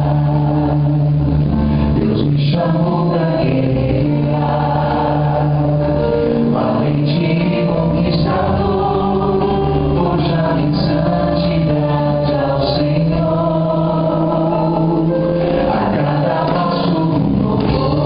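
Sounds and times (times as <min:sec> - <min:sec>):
choir singing with band: 0:00.0 - 0:18.0.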